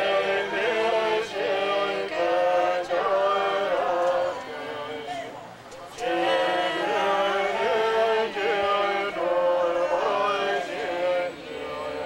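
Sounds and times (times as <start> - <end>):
prayer chanted in long sung notes: 0.0 - 12.0.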